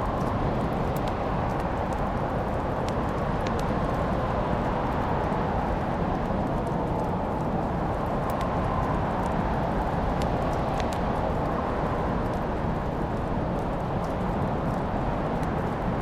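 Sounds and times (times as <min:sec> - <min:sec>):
low rushing fire: 0:00.0 - 0:16.0
wood fire crackling and popping: 0:00.0 - 0:16.0.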